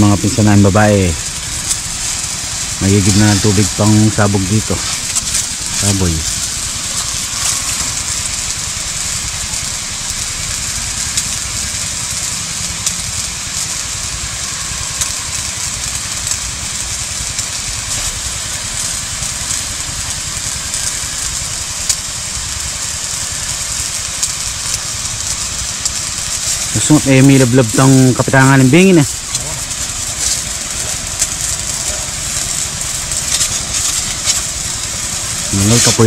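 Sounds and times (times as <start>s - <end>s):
power sprayer engine running: 0.0s - 36.0s
water jet hissing: 0.0s - 36.0s.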